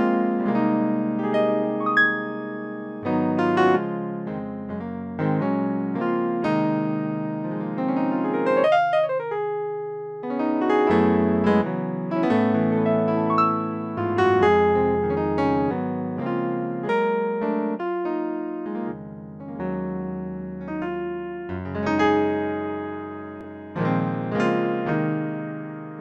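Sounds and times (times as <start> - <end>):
gospel keyboard chords: 0.0 - 9.5, 10.2 - 26.0.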